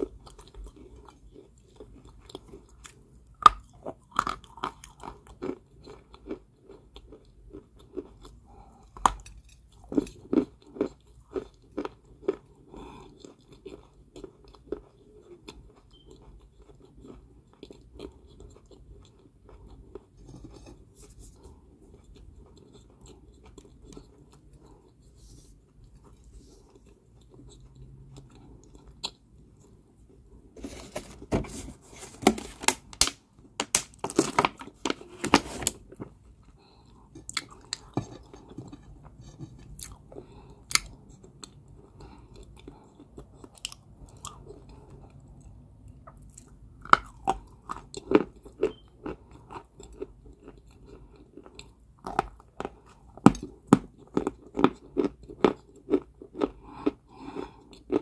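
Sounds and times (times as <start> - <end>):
person chewing crunchy clay: 0.0 - 31.0, 32.0 - 58.0.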